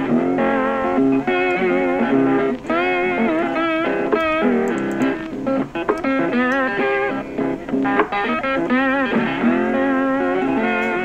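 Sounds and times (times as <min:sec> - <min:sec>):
guitar melody with bent notes: 0:00.0 - 0:11.0.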